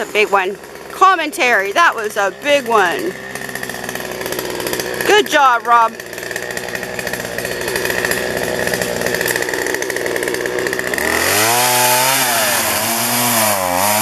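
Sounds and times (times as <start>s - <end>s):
chainsaw cutting through branches: 0.0s - 14.0s
chainsaw idling: 0.0s - 14.0s.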